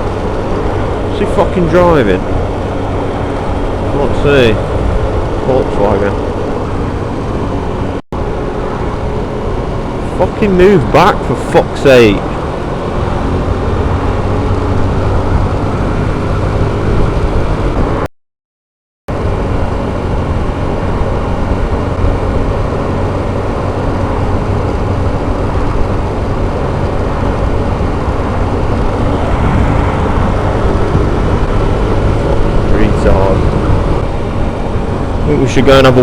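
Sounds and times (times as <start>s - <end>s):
wind rush on microphone: 0.0s - 10.1s, 12.2s - 18.1s, 19.1s - 36.0s
motorcycle engine cruising: 0.0s - 18.1s, 19.1s - 36.0s.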